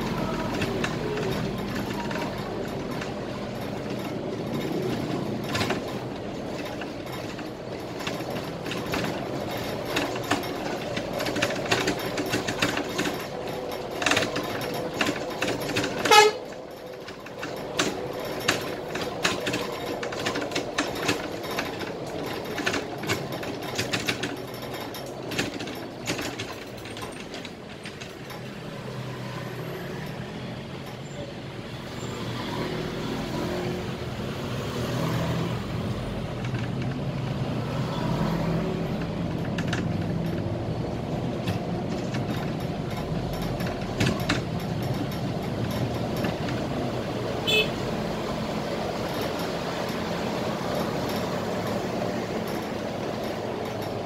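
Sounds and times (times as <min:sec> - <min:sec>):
cabin rattles and clicks: 0:00.0 - 0:28.8, 0:35.7 - 0:54.0
bus engine and road noise: 0:00.0 - 0:54.0.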